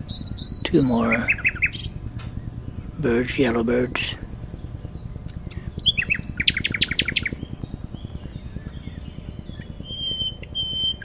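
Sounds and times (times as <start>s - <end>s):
helicopter rotors thudding: 0.0s - 11.0s
nightingale singing: 0.0s - 11.0s.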